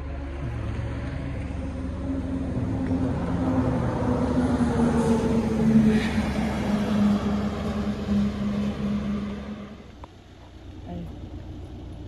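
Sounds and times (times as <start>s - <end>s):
truck engine hum: 0.0s - 12.0s.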